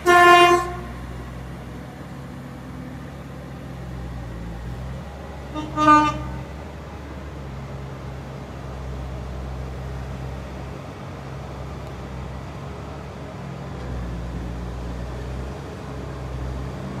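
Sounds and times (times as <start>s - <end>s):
distant vehicles rumbling: 0.0s - 17.0s.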